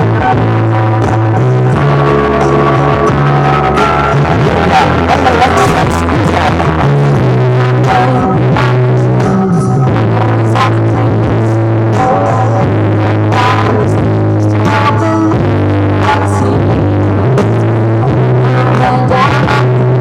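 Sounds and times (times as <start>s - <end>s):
heavy steady bass line: 0.0s - 20.0s
loud electronic remix music: 0.0s - 20.0s.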